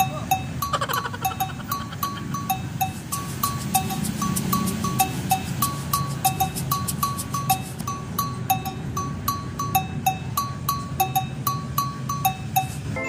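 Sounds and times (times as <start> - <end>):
pitched percussion pattern: 0.0 - 13.0.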